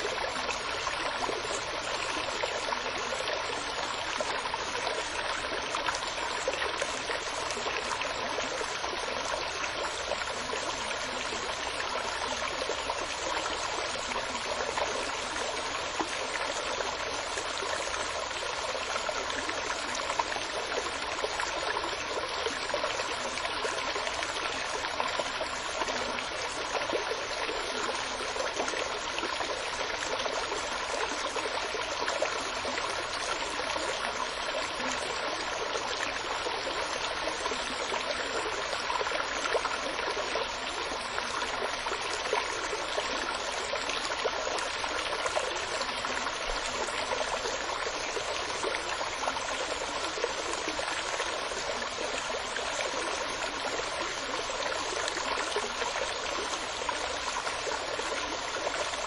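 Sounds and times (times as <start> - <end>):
flowing water: 0.0 - 59.0.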